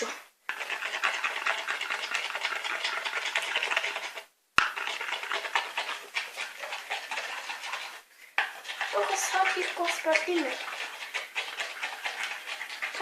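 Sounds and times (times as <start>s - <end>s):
slime being stirred: 0.0s - 13.0s.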